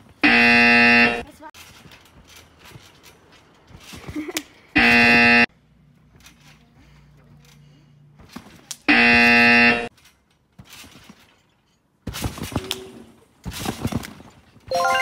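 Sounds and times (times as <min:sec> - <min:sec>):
trampoline thumps and rustle: 0:00.0 - 0:14.7.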